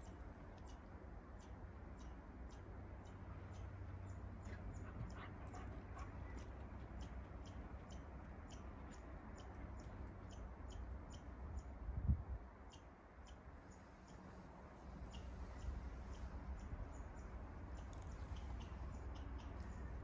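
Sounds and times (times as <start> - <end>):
faint high ticks: 0.0 - 12.0, 12.6 - 14.4, 15.0 - 20.0
steady low rumble: 0.0 - 12.6, 13.5 - 20.0.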